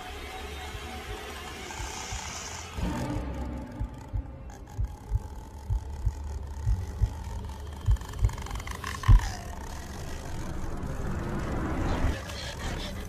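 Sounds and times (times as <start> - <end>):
faint steady hum: 0.0 - 12.1.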